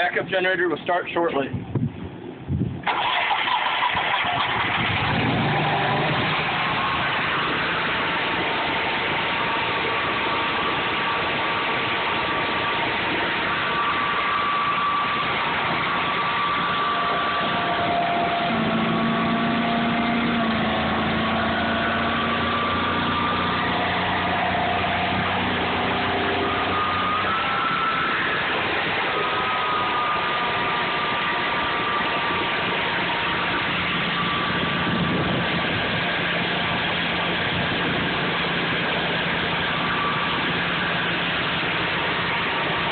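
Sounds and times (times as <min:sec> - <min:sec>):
generator engine running: 0:00.0 - 0:42.9.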